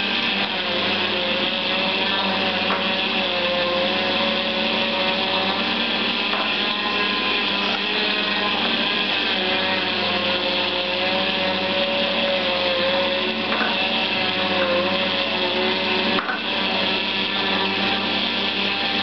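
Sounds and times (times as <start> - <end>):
juicer motor humming: 0.0 - 19.0.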